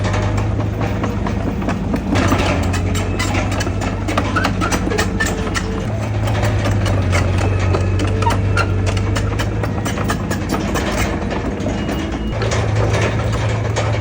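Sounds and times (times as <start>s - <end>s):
bulldozer diesel engine: 0.0s - 14.0s
steel parts clanking: 0.0s - 14.0s.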